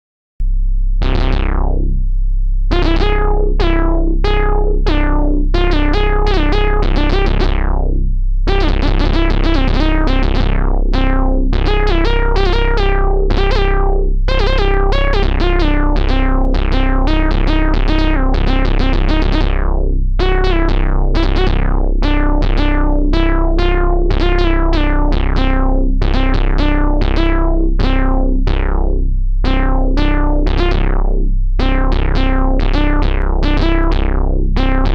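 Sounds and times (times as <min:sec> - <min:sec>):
deep bass tone: 0:00.4 - 0:34.9.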